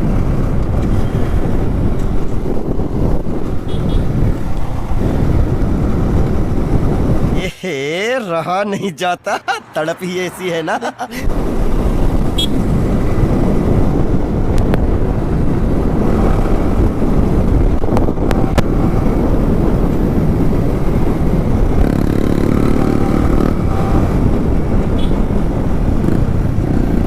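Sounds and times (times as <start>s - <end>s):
wind over microphone: 0.0s - 7.8s, 11.0s - 27.0s.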